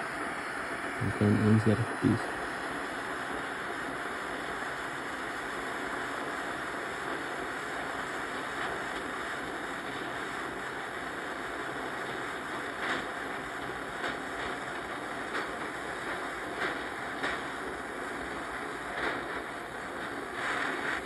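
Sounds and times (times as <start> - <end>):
torch flame hissing: 0.0 - 21.0.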